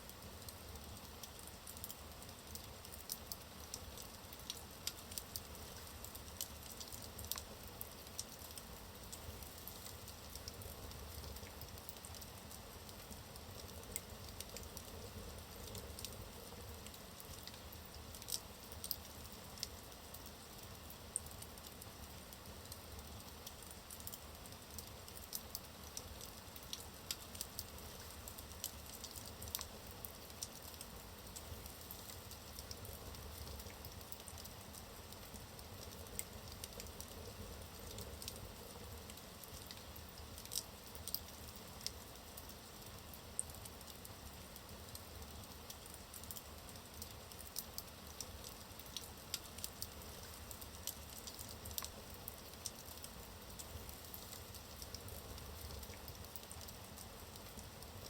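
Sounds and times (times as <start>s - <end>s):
logs crackling and popping: 0.4s - 16.2s, 16.8s - 20.2s, 21.4s - 57.9s.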